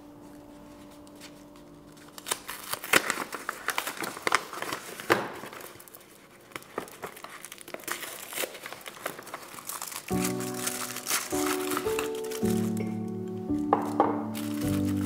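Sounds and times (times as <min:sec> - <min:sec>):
wrapper tearing and crinkling: 0:00.8 - 0:15.0.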